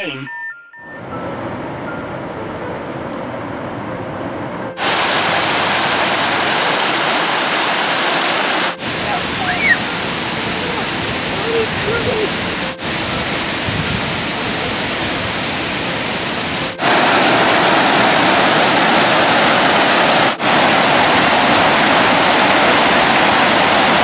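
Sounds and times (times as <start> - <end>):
waterfall rushing: 4.7 - 24.0
white-water rapids: 4.8 - 24.0.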